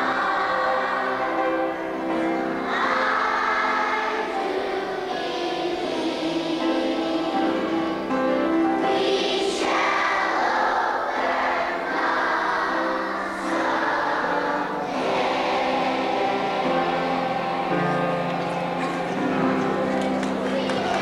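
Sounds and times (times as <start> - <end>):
choir singing long notes: 0.0 - 21.0.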